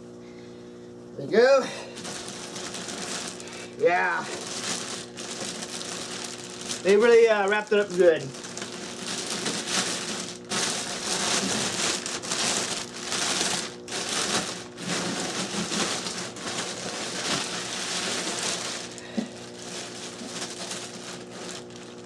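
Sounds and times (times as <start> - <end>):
plastic bag crinkling: 1.8 - 22.0.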